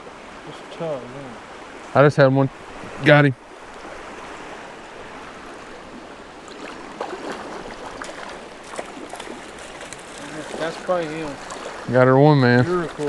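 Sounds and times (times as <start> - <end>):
creek water flowing: 0.0 - 13.0
water splashes: 0.0 - 13.0.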